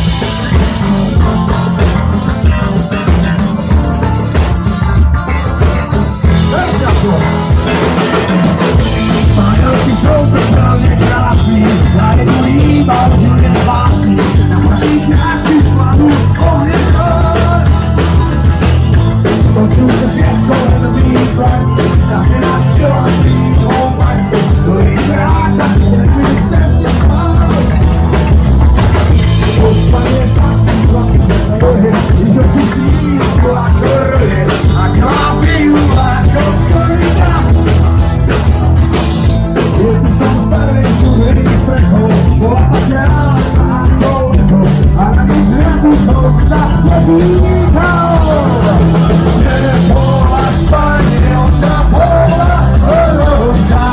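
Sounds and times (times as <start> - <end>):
person singing: 0.0 - 38.5, 39.6 - 53.9
punk rock band playing: 0.0 - 53.9.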